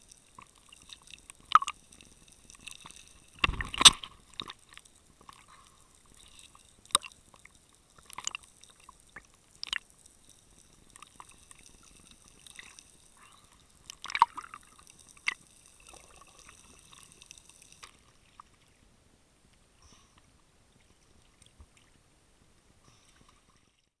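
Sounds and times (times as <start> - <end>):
faint hiss: 0.0 - 23.9.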